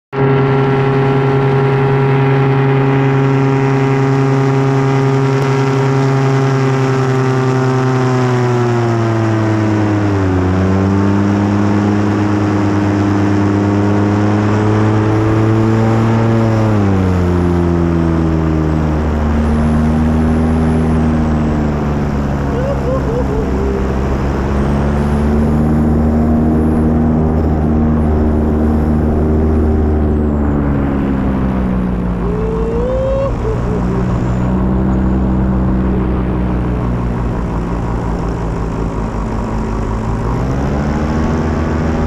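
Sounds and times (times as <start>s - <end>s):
paramotor engine and propeller: 0.1s - 42.0s.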